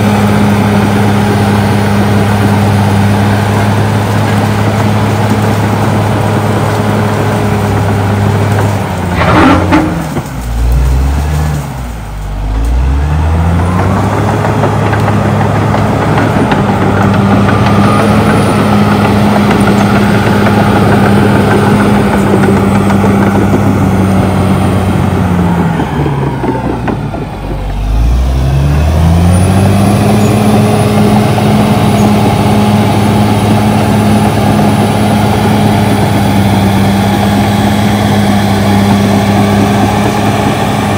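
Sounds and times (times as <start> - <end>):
bulldozer diesel engine: 0.0 - 40.9.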